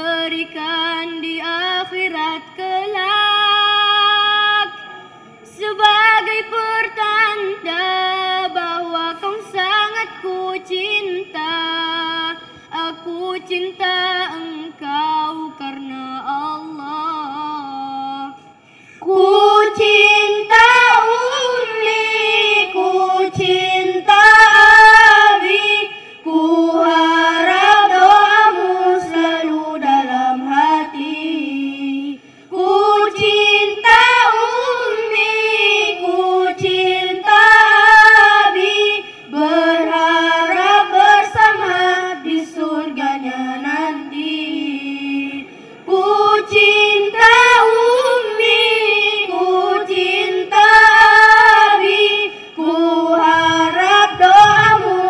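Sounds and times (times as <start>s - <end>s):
woman singing: 0.0s - 4.8s, 5.5s - 18.4s, 19.0s - 55.0s.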